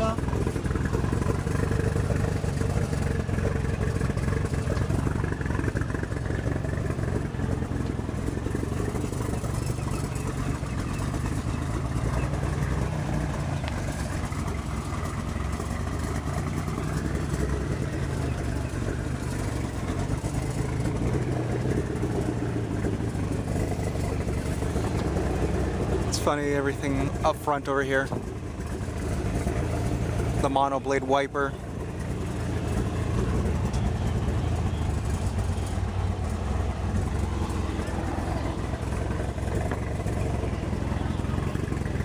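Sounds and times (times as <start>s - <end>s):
car engine idling roughly: 0.0s - 42.0s.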